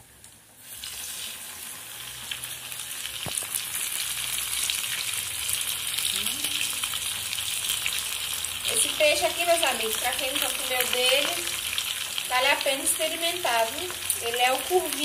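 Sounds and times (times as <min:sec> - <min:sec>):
fish deep-frying in oil: 0:00.0 - 0:15.0.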